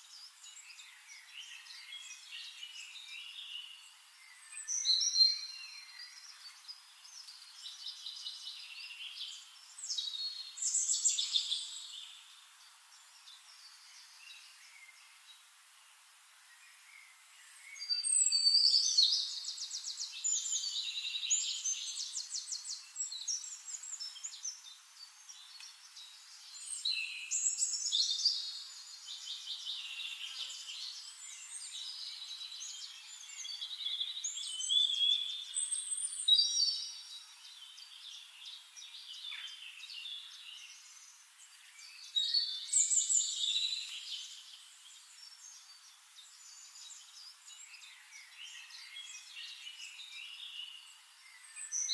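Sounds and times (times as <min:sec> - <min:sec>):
songbirds singing: 0:00.0 - 0:51.9.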